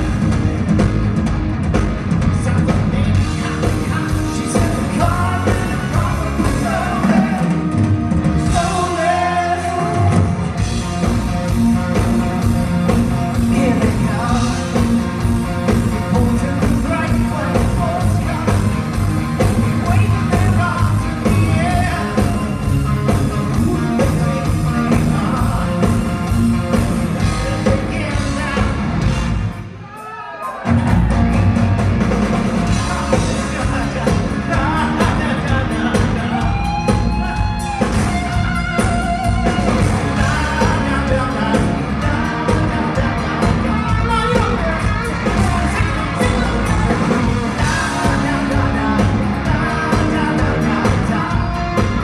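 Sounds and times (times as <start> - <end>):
electric guitars: 0.0 - 29.9, 30.5 - 52.0
bass: 0.0 - 52.0
drums: 0.0 - 52.0
man singing: 2.2 - 7.8, 8.4 - 10.6, 12.8 - 29.2, 32.6 - 52.0.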